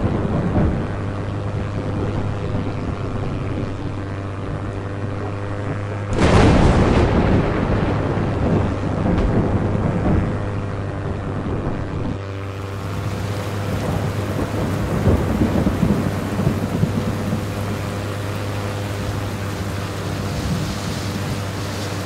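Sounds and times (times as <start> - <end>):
rolling thunder: 0.0 - 4.6, 6.1 - 22.0
heavy rain: 0.0 - 11.4, 12.3 - 22.0.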